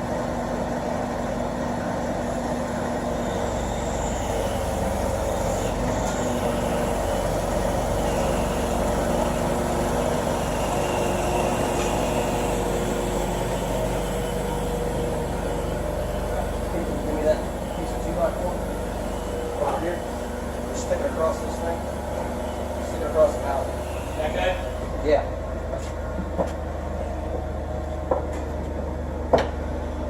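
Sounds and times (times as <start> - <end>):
forklift engine running: 0.0 - 30.0.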